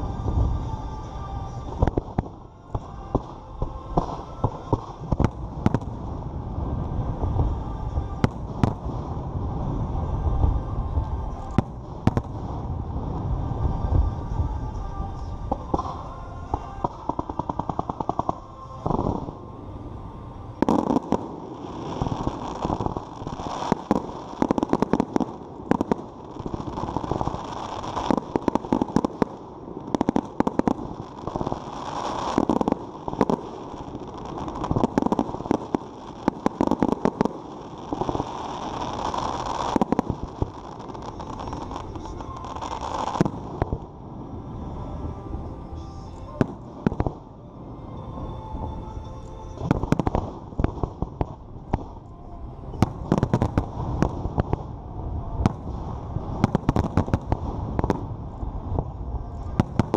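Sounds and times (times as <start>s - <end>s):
fireworks bangs and crackling: 0.0s - 19.4s, 20.6s - 44.4s, 45.8s - 47.3s, 49.6s - 52.0s, 52.7s - 59.9s
continuous rumble: 0.0s - 59.9s.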